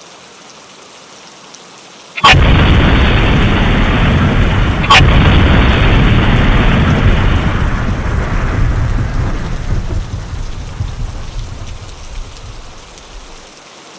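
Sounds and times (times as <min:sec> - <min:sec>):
steady rain: 0:00.0 - 0:13.9
sharp thunder crack: 0:02.2 - 0:13.5
thunder rumbling: 0:02.2 - 0:13.5.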